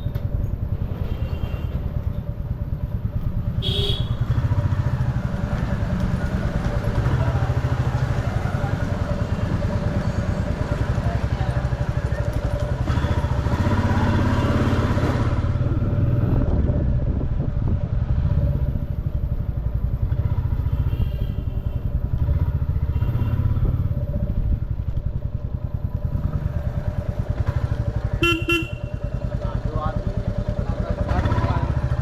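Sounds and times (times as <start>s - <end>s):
motorcycle engine running: 0.0s - 32.0s
street traffic: 0.0s - 32.0s.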